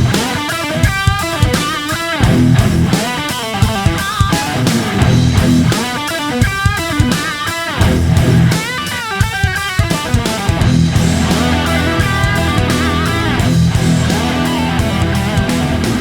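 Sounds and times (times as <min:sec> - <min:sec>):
bass and steady beat: 0:00.0 - 0:16.0
electric guitar melody: 0:00.0 - 0:16.0.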